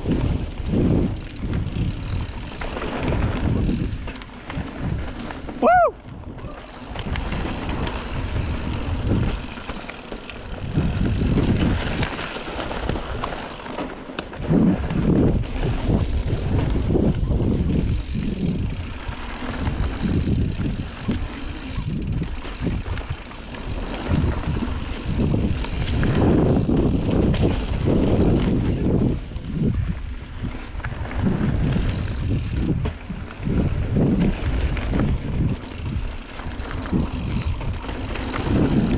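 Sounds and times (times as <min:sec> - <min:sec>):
wind buffeting microphone: 0:00.0 - 0:13.6, 0:14.2 - 0:38.9
bike clatter over bumps: 0:00.0 - 0:38.9
tyres rumbling over dirt: 0:00.0 - 0:38.9.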